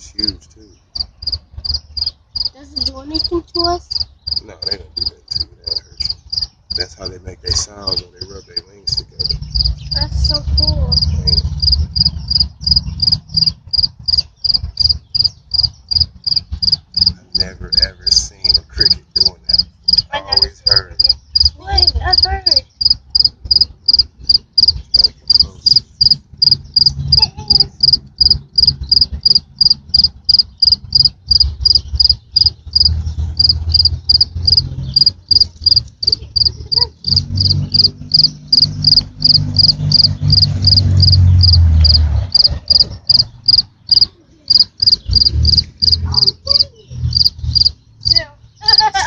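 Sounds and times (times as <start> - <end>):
cricket chirping: 0.0 - 49.0.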